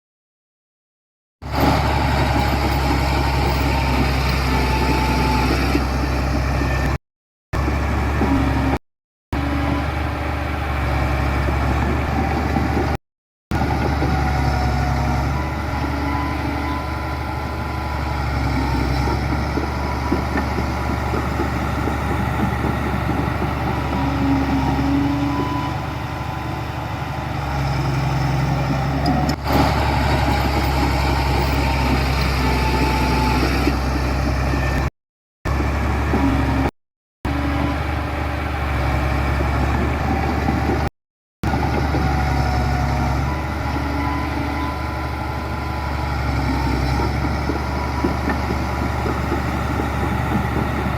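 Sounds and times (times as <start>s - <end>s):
diesel machinery engine hum: 1.4s - 7.0s, 7.6s - 8.8s, 9.4s - 34.9s, 35.5s - 36.7s, 37.3s - 50.9s.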